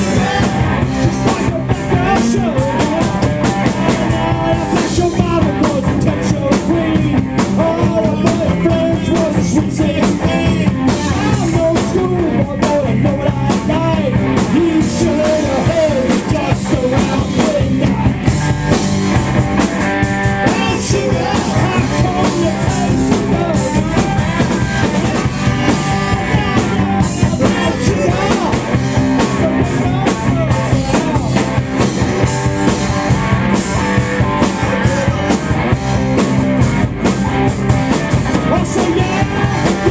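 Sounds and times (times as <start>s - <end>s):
drum kit: 0.0s - 39.9s
electric guitars: 0.0s - 39.9s.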